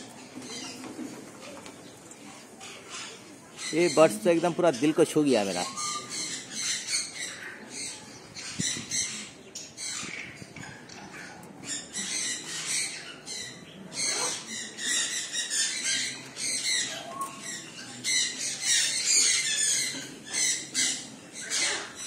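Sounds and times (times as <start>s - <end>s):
parrots squawking: 2.6s - 22.0s.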